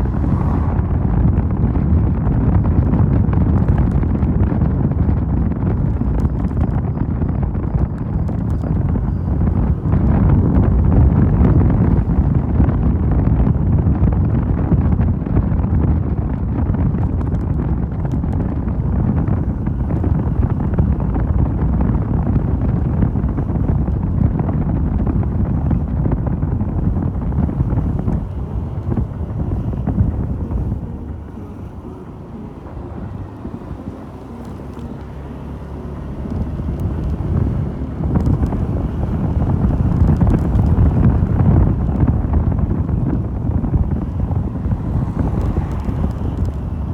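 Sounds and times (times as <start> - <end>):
wind rushing over microphone: 0.0 - 46.9.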